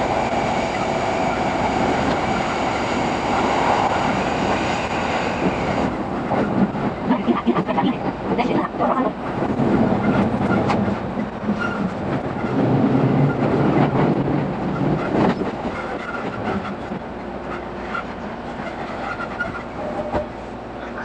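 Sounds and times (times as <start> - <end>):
rumble under train floor: 0.0 - 21.0
train wheels on rails: 0.0 - 21.0.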